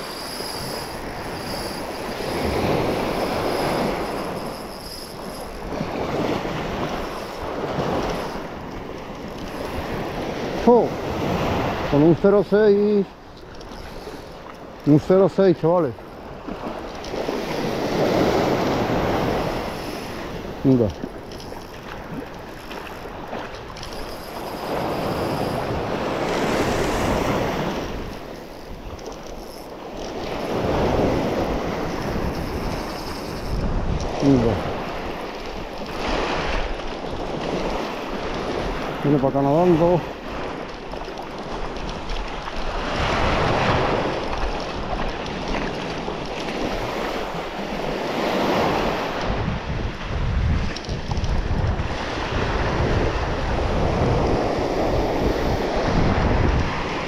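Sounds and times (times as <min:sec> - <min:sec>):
surf washing onto beach: 0:00.0 - 0:28.9, 0:29.8 - 0:57.0
wind buffeting microphone: 0:00.0 - 0:57.0.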